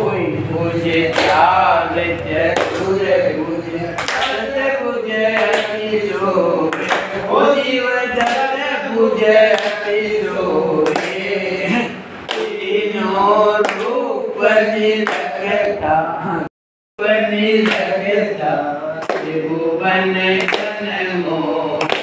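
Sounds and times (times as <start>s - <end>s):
group singing a devotional chant: 0.0s - 22.0s.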